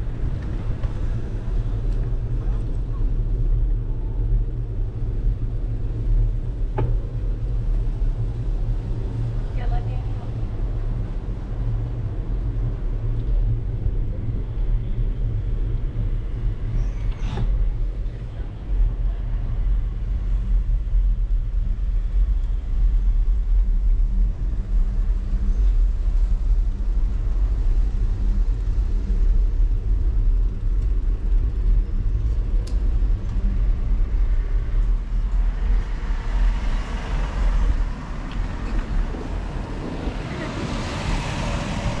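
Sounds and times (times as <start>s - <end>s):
street sounds: 0.0s - 42.0s
wind and road rumble: 0.0s - 42.0s.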